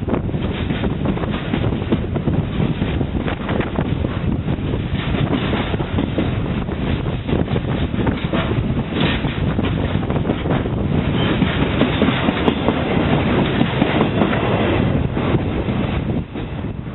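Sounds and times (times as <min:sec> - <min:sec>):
freight train rumble: 0:00.0 - 0:16.9
train wheels clacking on rails: 0:00.0 - 0:16.9.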